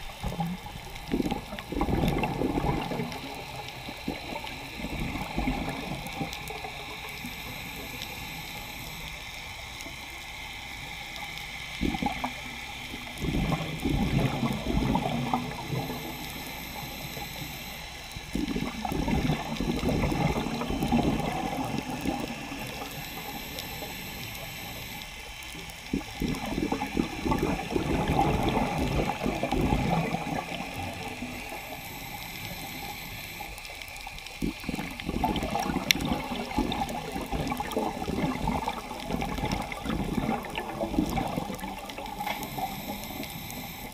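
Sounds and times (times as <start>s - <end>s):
exhaled bubbles gurgling underwater: 0.0s - 43.9s
steady underwater hiss: 0.0s - 43.9s.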